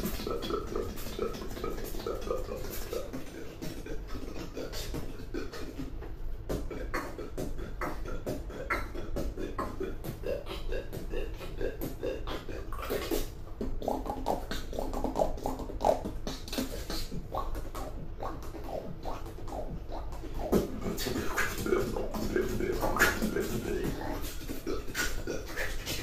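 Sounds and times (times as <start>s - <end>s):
beatboxing: 0.0s - 26.0s
hummed notes: 0.0s - 26.0s.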